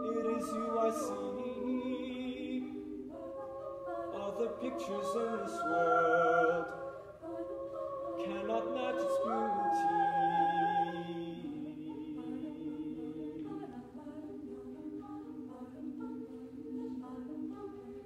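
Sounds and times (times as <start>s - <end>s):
choir singing a cappella: 0.0s - 18.0s.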